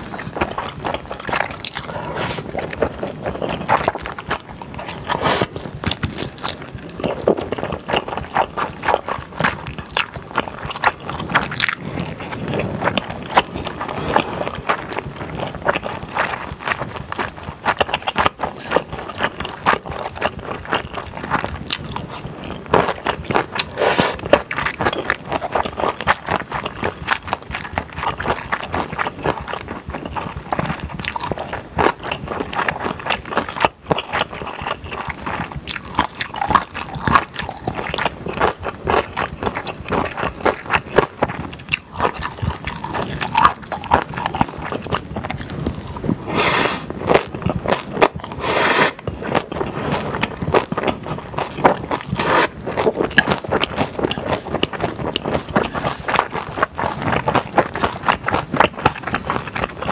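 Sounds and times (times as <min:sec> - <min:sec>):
mouth clicks and smacks: 0:00.0 - 0:59.9
person chewing noodles: 0:00.0 - 0:59.9.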